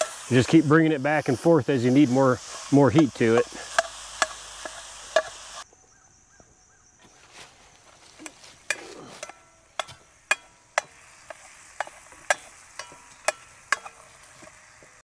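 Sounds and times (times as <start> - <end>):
utensil scraping a skillet: 0.0 - 5.6, 8.0 - 15.0
sausage sizzling: 0.0 - 5.7, 8.1 - 15.0.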